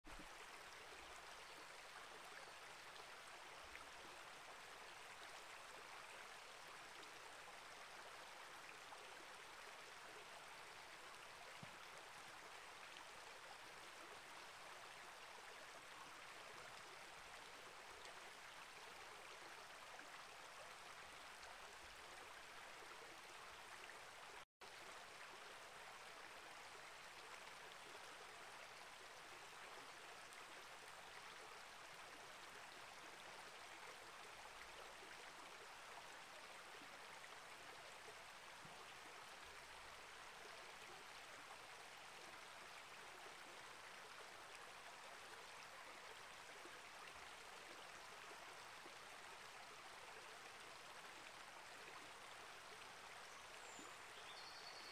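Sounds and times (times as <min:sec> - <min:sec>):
creek water rushing: 0:00.1 - 0:54.9.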